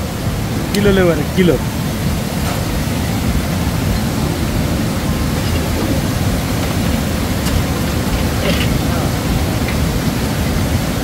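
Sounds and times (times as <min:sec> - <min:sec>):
low rushing noise: 0:00.0 - 0:11.0.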